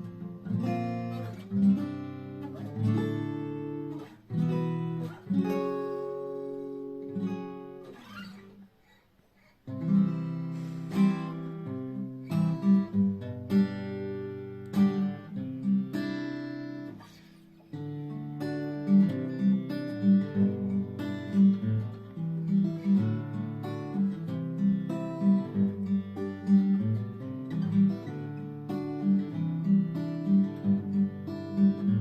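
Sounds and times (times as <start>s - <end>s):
acoustic guitar strumming: 0.0s - 8.6s, 9.6s - 32.0s.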